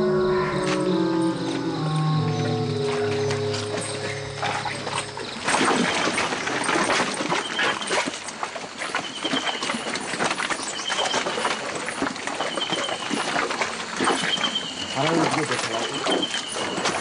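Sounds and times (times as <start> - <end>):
elephant feet treading through mud: 0.6 - 17.0.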